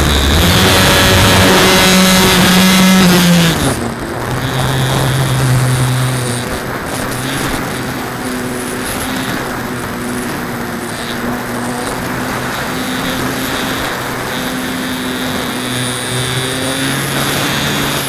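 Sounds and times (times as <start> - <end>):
model plane electric motor whine: 0.0 - 18.0
wind rushing over microphone: 0.0 - 18.0.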